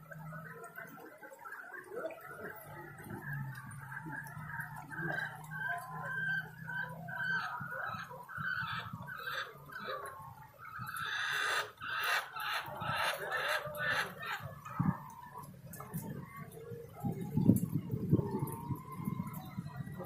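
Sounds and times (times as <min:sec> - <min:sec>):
chickens clucking: 0:00.1 - 0:20.0.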